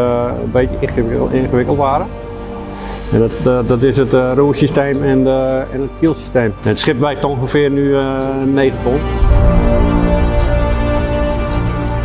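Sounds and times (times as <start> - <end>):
music with sustained notes: 0.0 - 12.0.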